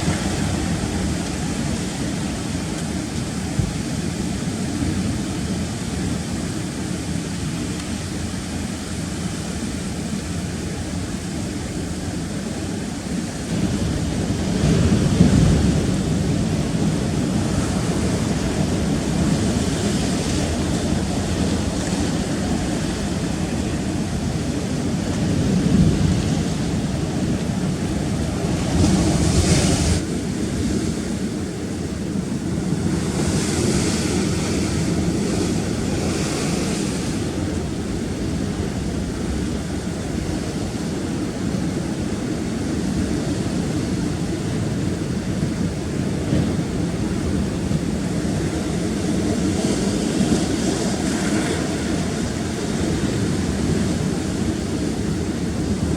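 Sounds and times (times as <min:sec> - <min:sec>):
surf breaking against rocks: 0:00.0 - 0:55.9
wind buffeting microphone: 0:00.0 - 0:55.9.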